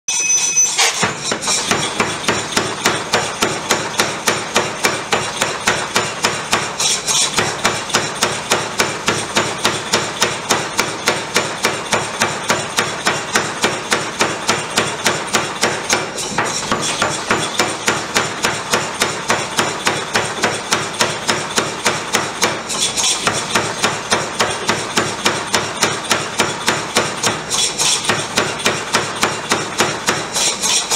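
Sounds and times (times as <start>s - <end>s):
power hammer striking hot steel: 0.8s - 30.9s.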